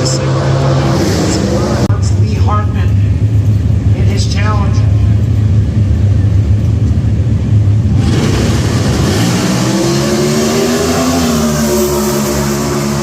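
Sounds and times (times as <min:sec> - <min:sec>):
drag racing car engines: 0:00.0 - 0:13.0.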